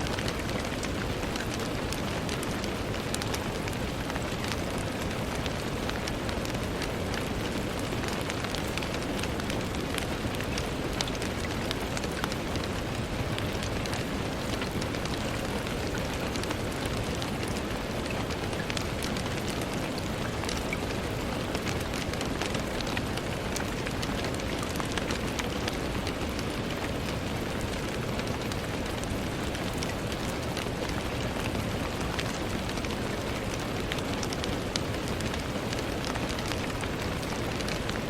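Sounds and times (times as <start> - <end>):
rain on a window pane: 0.0 - 38.0.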